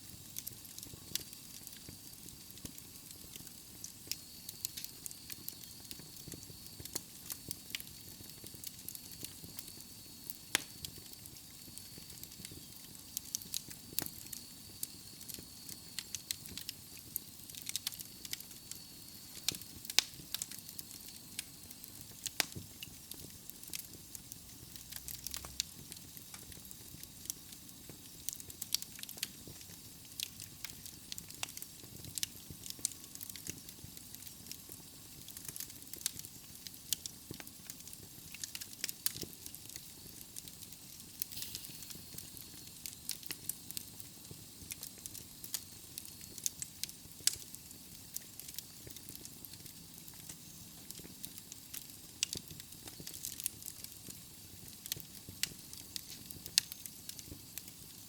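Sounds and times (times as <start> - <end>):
burning logs crackling and popping: 0.0 - 58.0.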